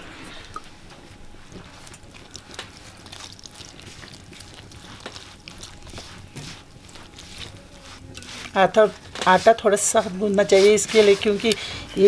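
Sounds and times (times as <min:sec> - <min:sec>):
hand rustling in flour: 0:01.1 - 0:12.0.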